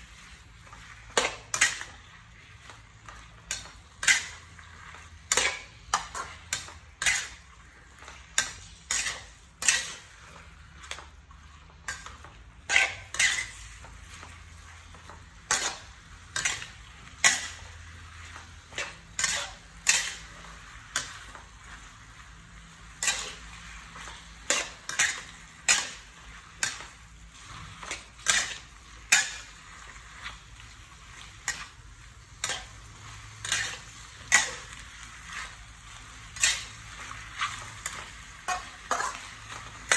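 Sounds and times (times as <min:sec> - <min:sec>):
frying sizzle: 0:00.0 - 0:39.9
spatula scraping a wok: 0:00.0 - 0:39.9.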